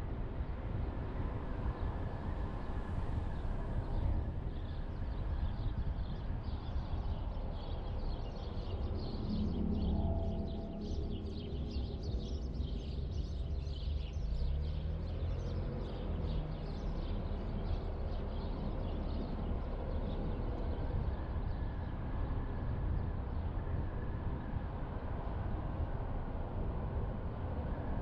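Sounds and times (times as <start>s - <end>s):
car tyres and engine rumbling: 0.1s - 28.0s.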